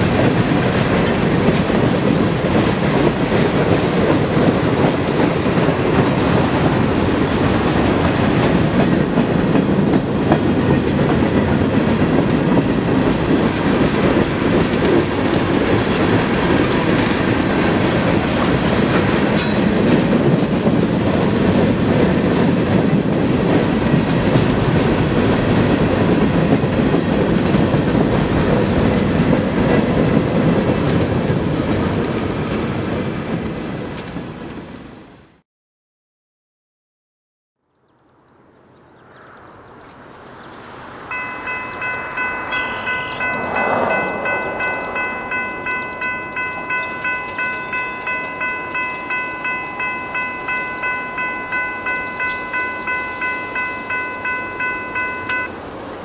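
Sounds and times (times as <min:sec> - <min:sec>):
steel wheels on rails: 0:00.0 - 0:34.9, 0:40.6 - 0:56.0
freight train rolling past: 0:00.0 - 0:35.3, 0:39.0 - 0:56.0.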